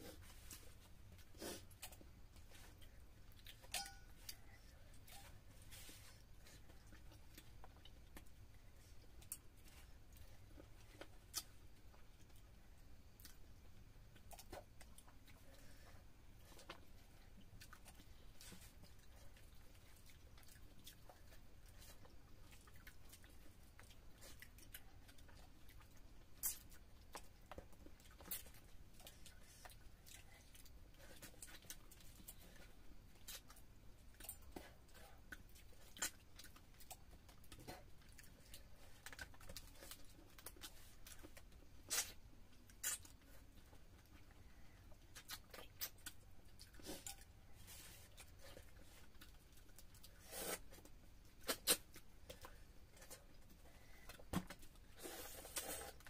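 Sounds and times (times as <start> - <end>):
people chewing: 0.0 - 56.0.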